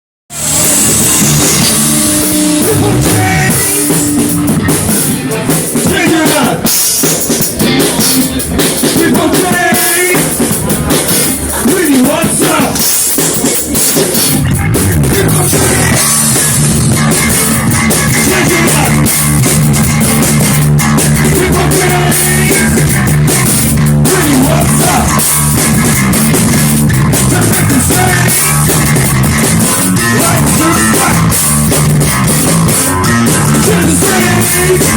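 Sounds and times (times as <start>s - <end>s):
live rock band playing: 0.3s - 34.9s.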